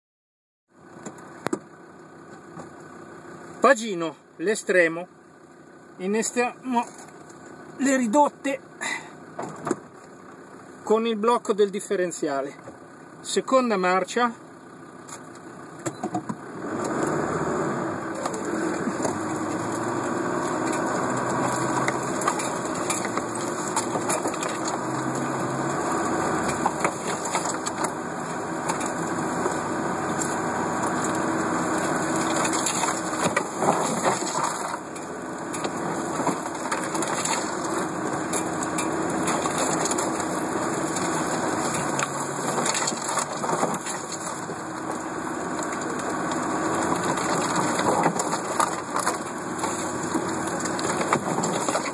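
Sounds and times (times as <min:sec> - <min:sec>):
vehicle engine pulling uphill: 0:00.7 - 0:51.9
branches scraping against vehicle: 0:00.8 - 0:51.9.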